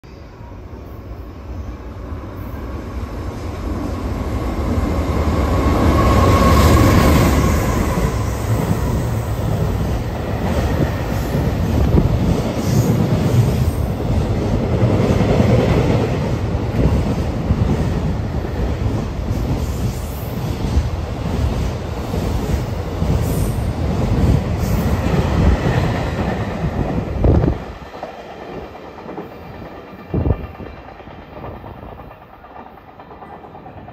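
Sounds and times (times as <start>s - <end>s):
electric locomotive passing: 0.1s - 33.9s.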